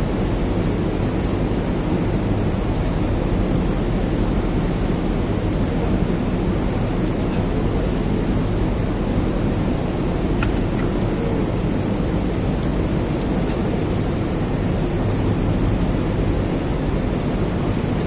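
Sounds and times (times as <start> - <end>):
machinery low hum: 0.0 - 18.0.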